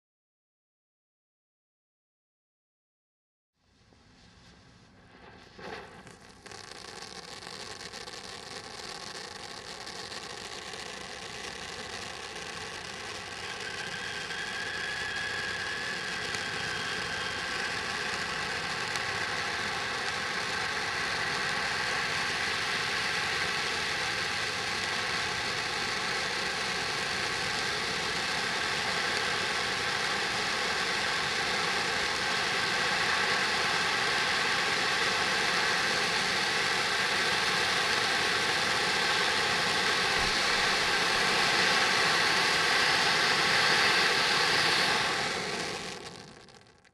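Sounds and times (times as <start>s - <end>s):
firework fountain hissing: 3.9s - 46.9s.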